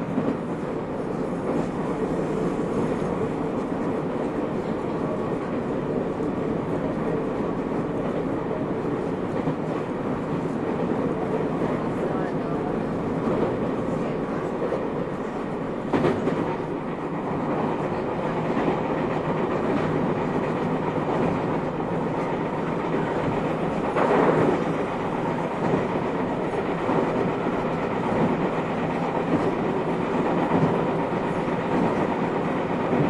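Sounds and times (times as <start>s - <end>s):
train clatter: 0.0s - 33.0s
train wheels rumbling on rails: 0.0s - 33.0s.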